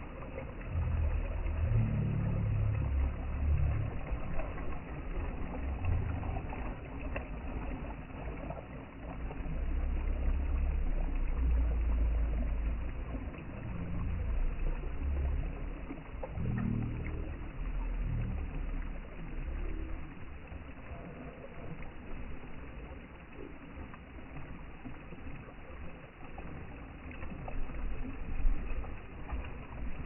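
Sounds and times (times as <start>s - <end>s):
deep wave rumble: 0.0s - 30.0s
ocean waves washing: 0.0s - 30.0s.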